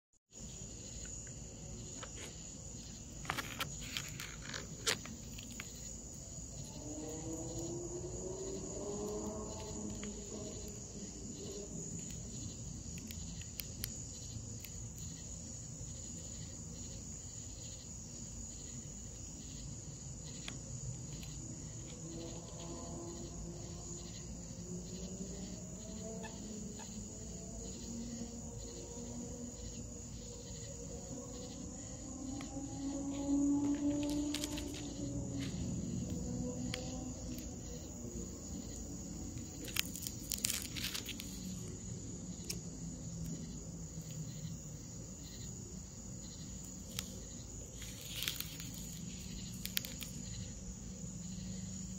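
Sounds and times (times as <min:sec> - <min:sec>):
night insects trilling: 0:00.3 - 0:51.9.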